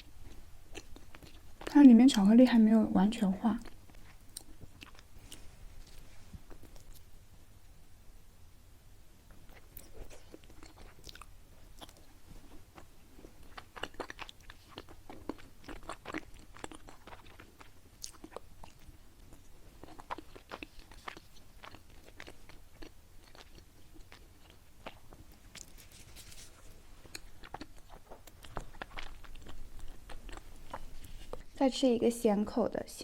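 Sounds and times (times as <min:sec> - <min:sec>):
close chewing with mouth clicks: 0:00.0 - 0:02.5, 0:03.6 - 0:07.1, 0:09.3 - 0:31.6.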